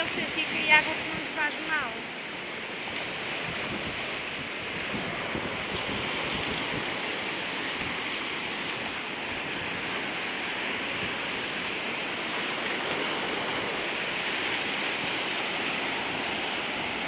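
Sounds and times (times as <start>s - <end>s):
ocean surf on rocky shore: 0.0s - 17.0s.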